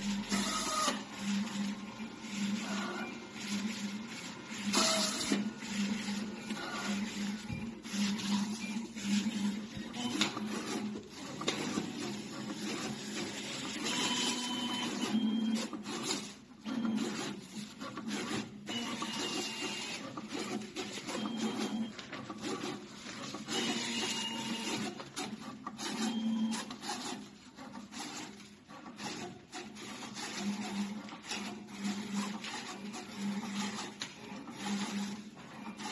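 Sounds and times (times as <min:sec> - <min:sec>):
cutting machine whirring and rattling: 0:00.0 - 0:35.9.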